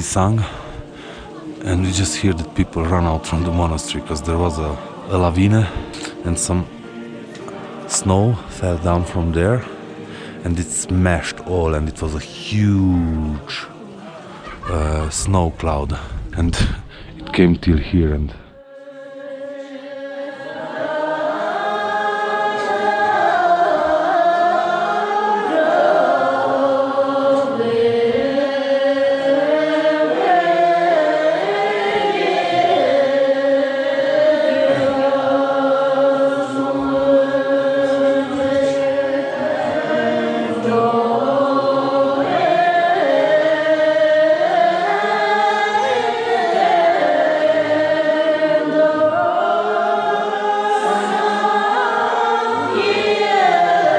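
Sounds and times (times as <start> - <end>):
choir singing long notes: 0.0 - 53.9.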